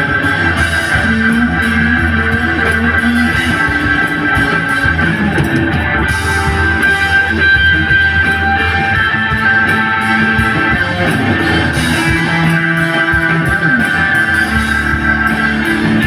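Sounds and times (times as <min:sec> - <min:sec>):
electric guitar: 0:00.0 - 0:16.0
live rock band playing: 0:00.0 - 0:16.0.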